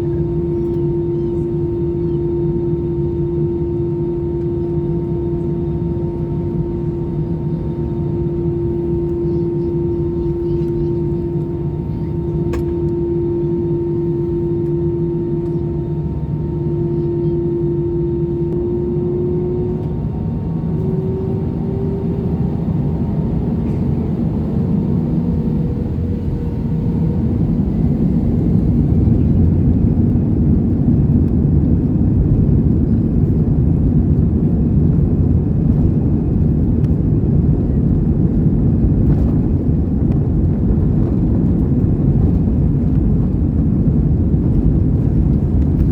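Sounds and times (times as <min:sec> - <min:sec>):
jet engine rumble: 0:00.0 - 0:45.9
jet engine whine: 0:00.0 - 0:45.9.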